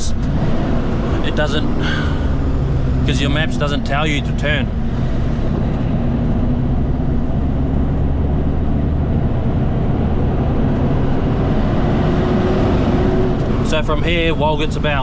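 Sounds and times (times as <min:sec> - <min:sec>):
diesel engine running under load: 0:00.0 - 0:15.0
road noise: 0:00.0 - 0:15.0.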